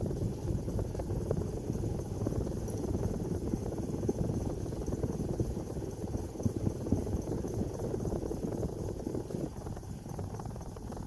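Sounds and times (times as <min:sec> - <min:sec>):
ceiling fan whirring: 0:00.0 - 0:11.0.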